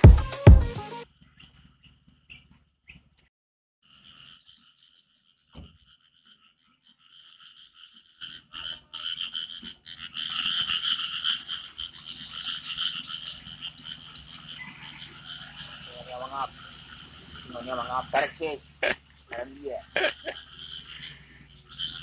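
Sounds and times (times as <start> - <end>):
frogs calling: 3.8 - 22.0.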